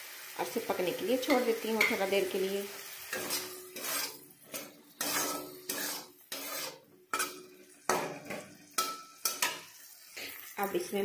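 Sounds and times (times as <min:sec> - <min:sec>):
light sizzle of frying: 0:00.0 - 0:11.0
metal spatula scraping in a wok: 0:01.2 - 0:10.5.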